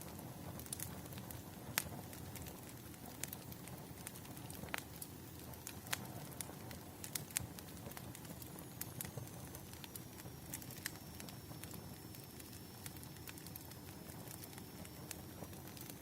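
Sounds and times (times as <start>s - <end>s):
firewood crackling: 0.0s - 16.0s.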